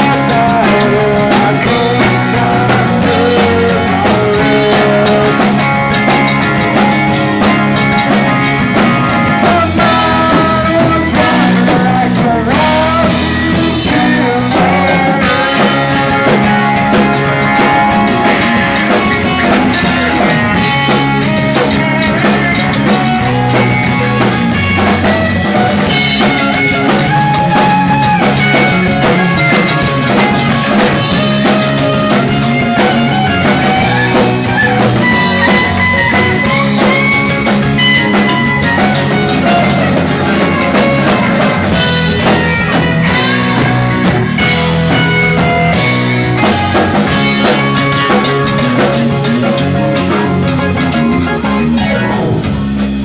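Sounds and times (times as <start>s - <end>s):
drum kit: 0.0s - 53.0s
electric guitars: 0.0s - 53.0s
keyboard: 0.0s - 53.0s.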